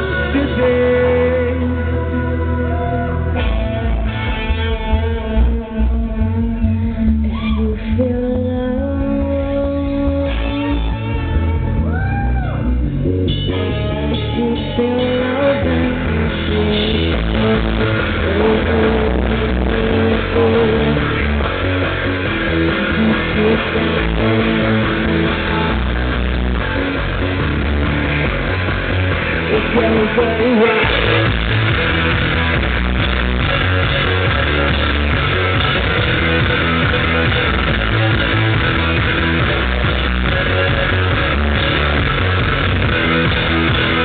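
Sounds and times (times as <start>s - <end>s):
rock band playing: 0.0s - 44.0s.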